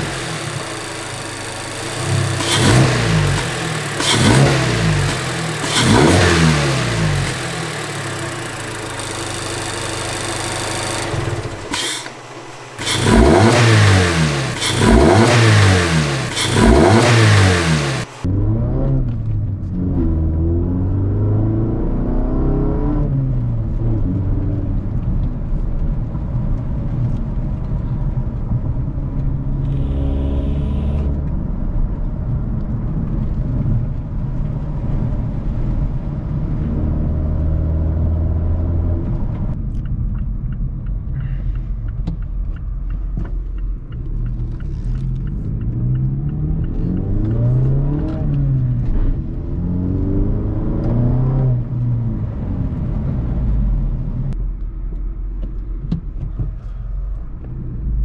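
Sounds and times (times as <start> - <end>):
car engine accelerating: 0.0 - 58.0
road rumble: 0.0 - 58.0.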